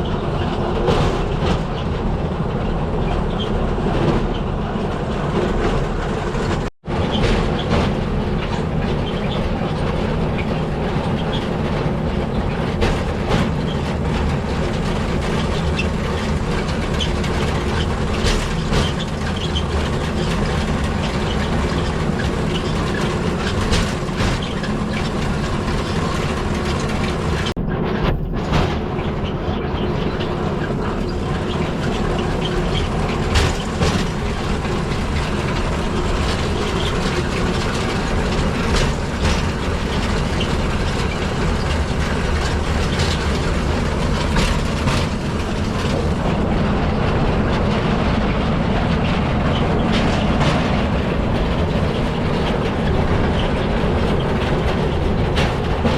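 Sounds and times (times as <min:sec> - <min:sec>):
steel wheels rumbling on track: 0:00.0 - 0:55.9
wheels clicking over rail joints: 0:00.0 - 0:55.9.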